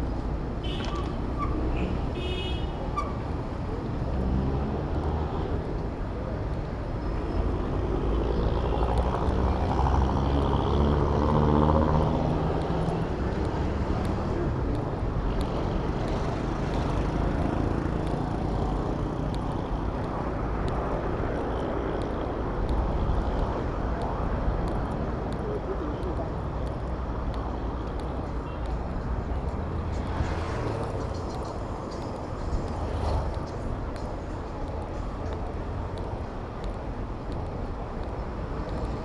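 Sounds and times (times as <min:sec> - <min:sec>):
street traffic noise: 0:00.0 - 0:39.0.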